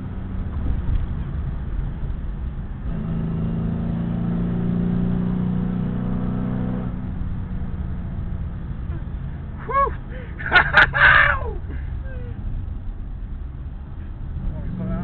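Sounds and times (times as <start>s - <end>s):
car engine at steady revs: 0.0s - 10.5s, 11.7s - 15.0s
road and tyre rumble: 0.0s - 15.0s.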